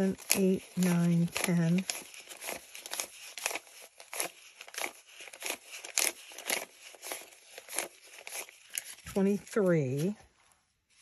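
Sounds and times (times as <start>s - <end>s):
bills being counted by hand: 0.0s - 10.2s.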